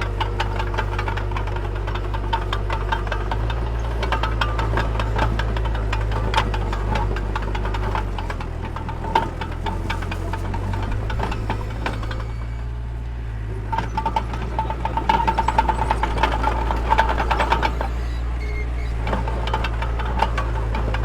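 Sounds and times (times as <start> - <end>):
diesel engine running: 0.0 - 21.0
metallic clanking and squeaking: 0.0 - 21.0.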